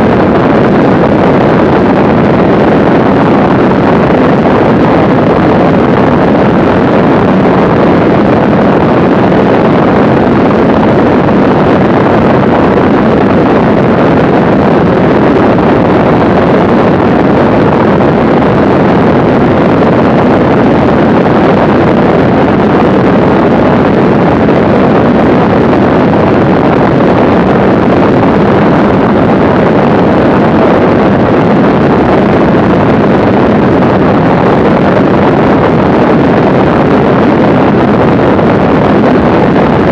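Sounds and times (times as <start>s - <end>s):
airplane engine droning: 0.0s - 39.9s
wind rush on microphone: 0.0s - 39.9s.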